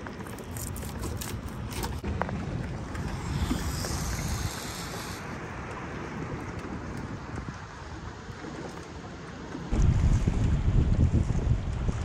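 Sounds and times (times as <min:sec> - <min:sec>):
water lapping against boat hull: 0:00.0 - 0:12.0
wind buffeting microphone: 0:01.9 - 0:12.0.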